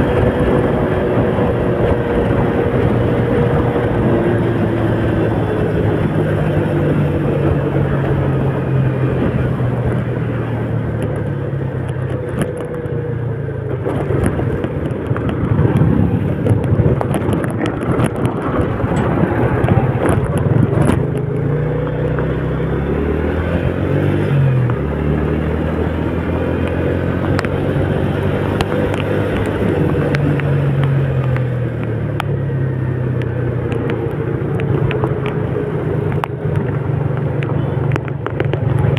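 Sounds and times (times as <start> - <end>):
road noise: 0.0 - 38.9
vehicle engine driving: 0.0 - 38.9.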